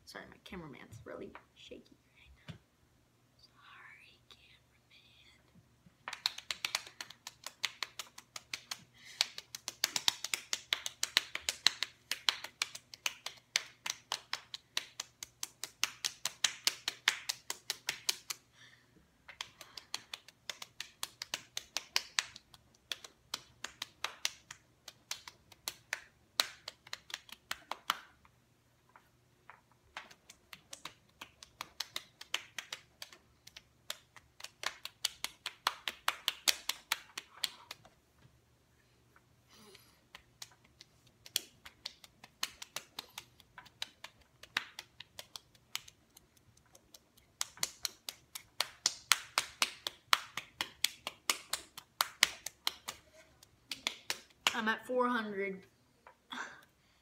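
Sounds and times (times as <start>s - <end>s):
palms slapping cheeks: 6.0s - 28.4s, 29.5s - 38.0s, 39.6s - 54.7s.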